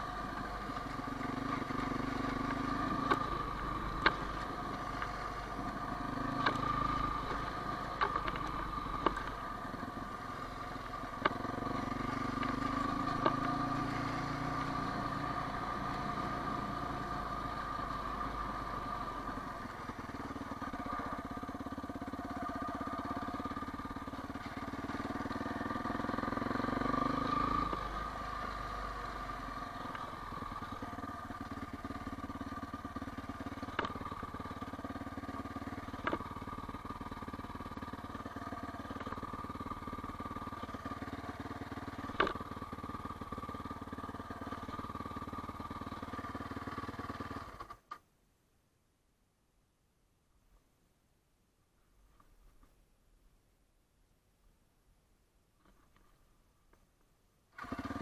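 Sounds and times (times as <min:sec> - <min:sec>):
quad bike engine running: 0:00.0 - 0:47.9, 0:57.6 - 0:58.0.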